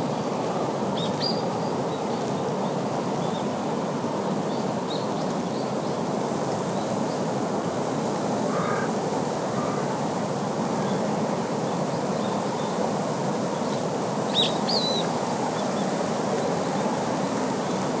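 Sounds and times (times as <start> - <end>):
rushing outdoor ambience: 0.0 - 18.0.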